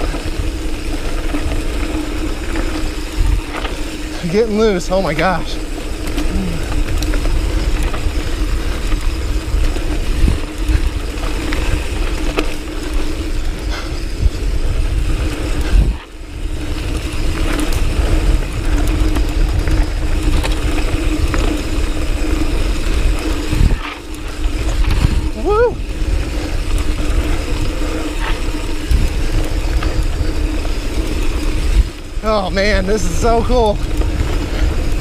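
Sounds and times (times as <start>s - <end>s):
bike tyres on dirt: 0.0s - 35.0s
wind rushing over microphone: 0.0s - 35.0s.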